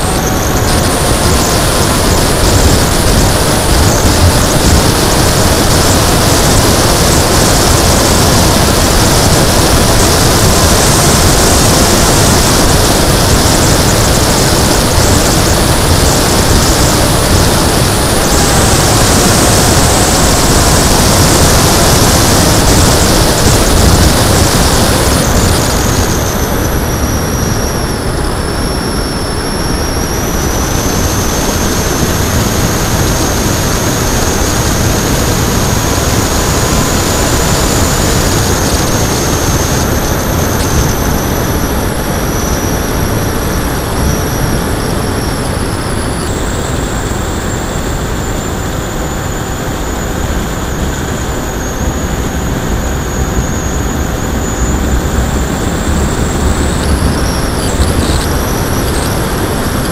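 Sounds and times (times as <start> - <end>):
electric motor propeller whine: 0.0 - 59.9
wind rush on microphone: 0.0 - 59.9.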